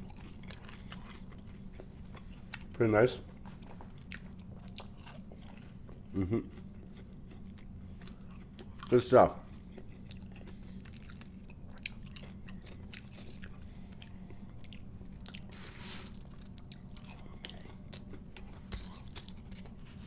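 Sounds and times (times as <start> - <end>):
chewing crunchy food: 0.0 - 20.0
steady low hum: 0.0 - 20.0.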